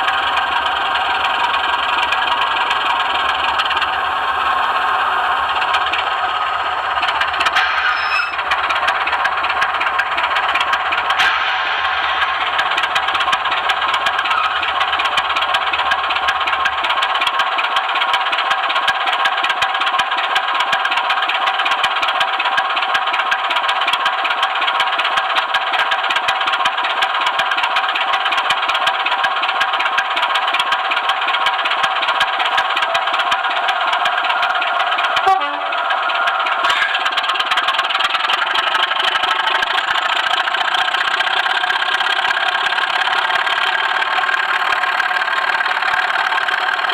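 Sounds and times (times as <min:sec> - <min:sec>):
model train wheels clattering: 0:00.0 - 0:46.9.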